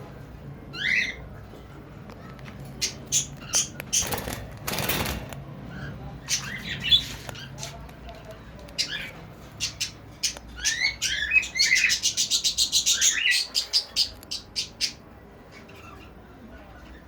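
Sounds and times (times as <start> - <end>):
birds squawking and chirping: 0.6 - 17.0.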